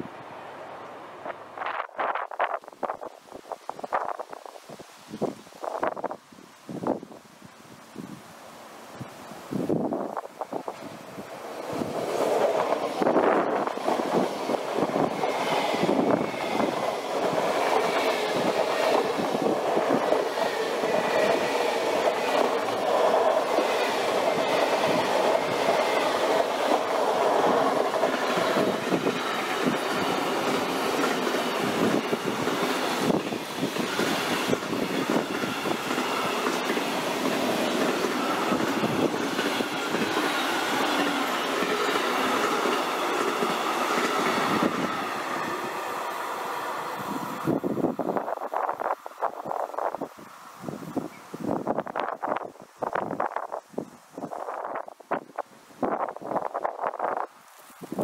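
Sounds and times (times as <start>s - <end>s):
train wheels rumbling on rail: 9.6s - 57.3s.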